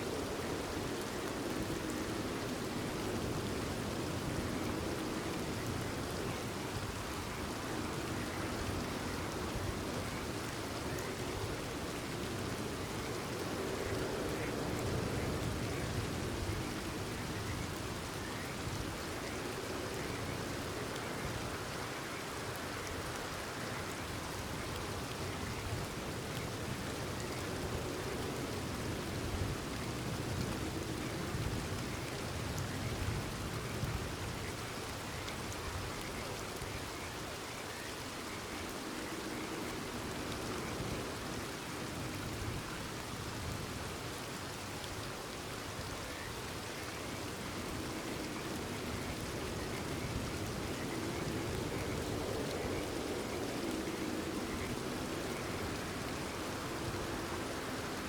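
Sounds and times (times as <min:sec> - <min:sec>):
faint frogs croaking: 0:00.0 - 0:58.0
rain pattering on surfaces: 0:00.0 - 0:58.0.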